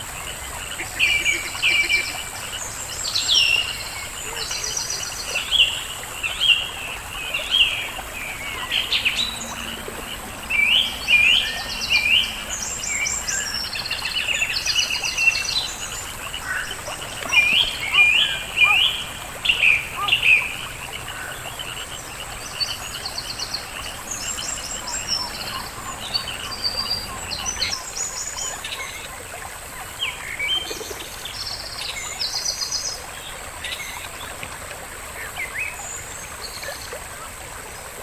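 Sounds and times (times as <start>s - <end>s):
small songbirds singing: 0.0s - 38.0s.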